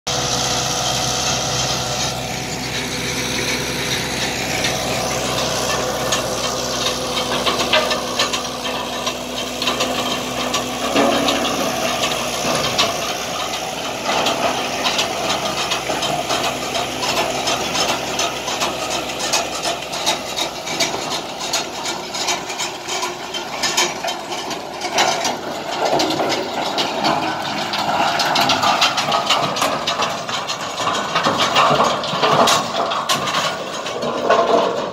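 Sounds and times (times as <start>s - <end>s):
tractor diesel engine running: 0.1s - 34.9s
stones rattling through machine: 3.3s - 34.9s.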